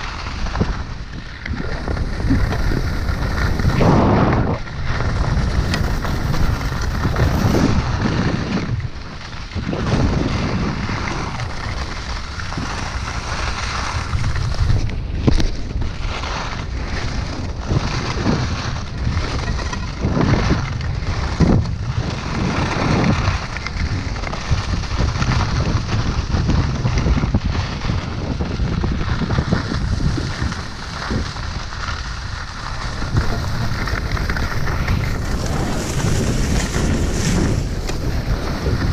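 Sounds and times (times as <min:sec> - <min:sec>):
skis scraping over snow: 0:00.0 - 0:38.9
wind buffeting microphone: 0:00.0 - 0:38.9.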